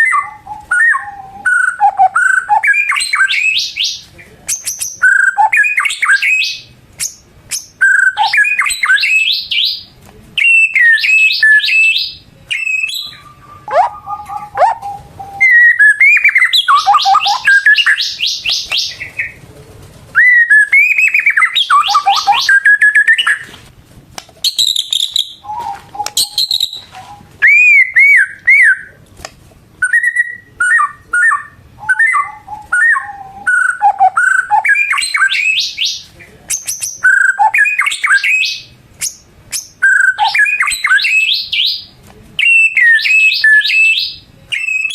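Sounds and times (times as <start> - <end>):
bird singing varied song: 0.0 - 19.4, 20.2 - 23.5, 24.4 - 29.0, 29.8 - 44.9.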